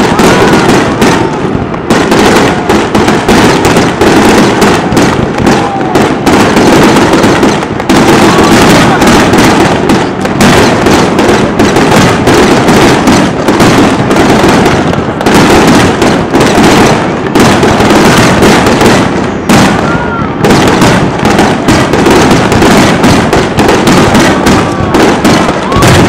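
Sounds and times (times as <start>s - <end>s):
fireworks booming: 0.0s - 26.0s
fireworks crackling: 0.0s - 26.0s.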